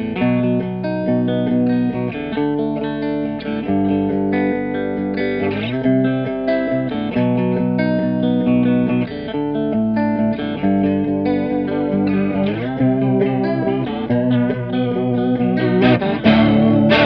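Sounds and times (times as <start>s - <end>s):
electric guitar chords with chorus: 0.0s - 17.0s.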